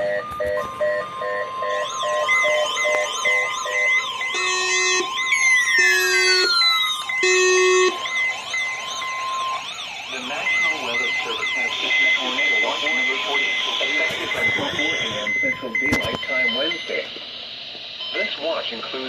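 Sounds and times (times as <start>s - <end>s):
electronic siren warble: 0.0s - 17.1s
long low beeps: 0.0s - 17.2s
steady high alert tone: 0.0s - 17.2s.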